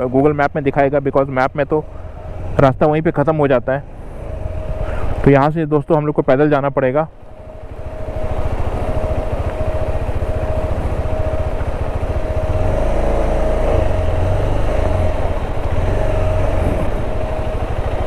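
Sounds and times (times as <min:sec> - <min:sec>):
motorcycle engine idling: 0:00.0 - 0:05.2, 0:05.8 - 0:18.0.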